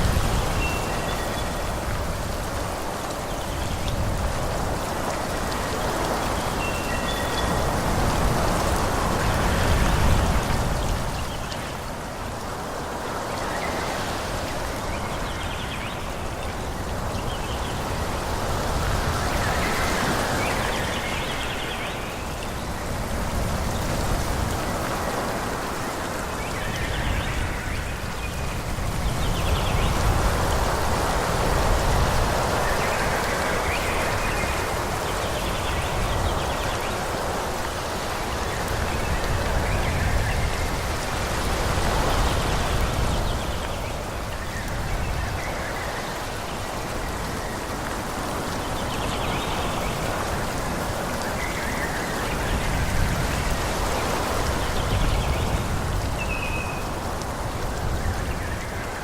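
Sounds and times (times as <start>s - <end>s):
rushing hiss with low rumble: 0.0s - 59.0s.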